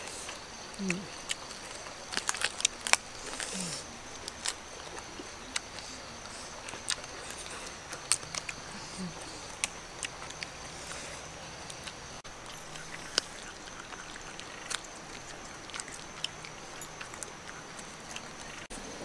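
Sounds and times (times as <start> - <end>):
mouths chewing: 0.0 - 19.0.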